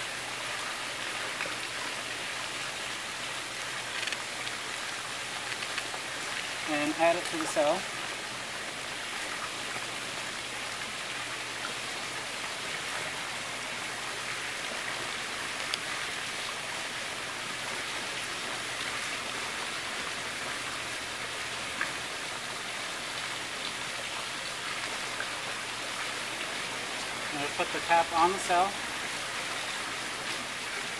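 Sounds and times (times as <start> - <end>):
running water hissing: 0.0 - 30.9.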